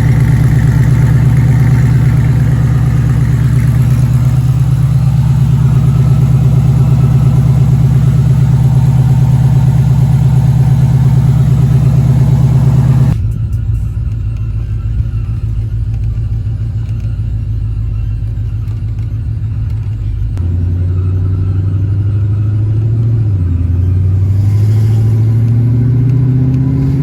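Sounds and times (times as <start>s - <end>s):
engine exhaust pulsing: 0.0s - 27.0s.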